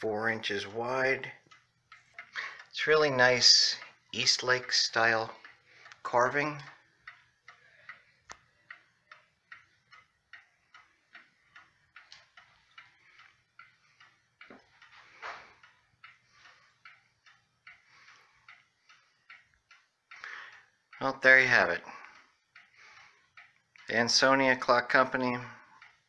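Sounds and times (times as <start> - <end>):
mantel clock ticking: 0.0 - 26.0.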